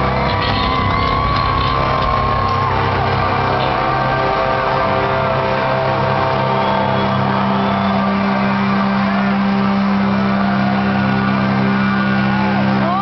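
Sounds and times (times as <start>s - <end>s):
loud rock band playing: 0.0s - 13.0s.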